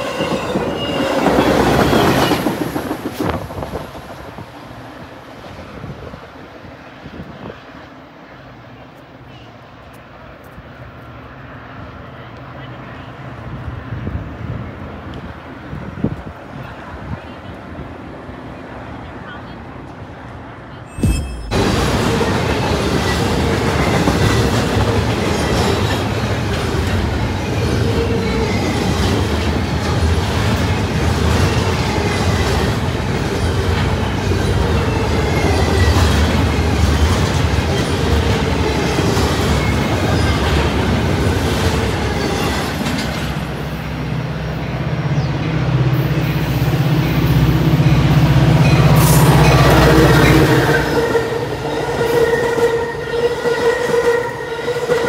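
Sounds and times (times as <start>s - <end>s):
freight train wheels rumbling: 0.0s - 10.8s, 13.2s - 55.0s.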